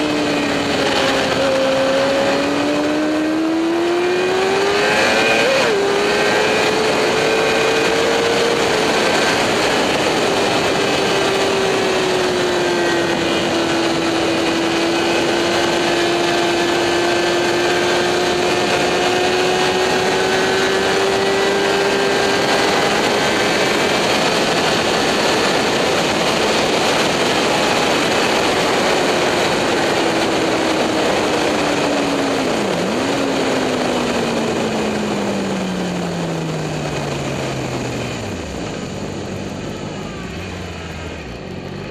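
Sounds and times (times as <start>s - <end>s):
motorcycle engine running: 0.0s - 41.9s
wind rush: 0.0s - 41.9s.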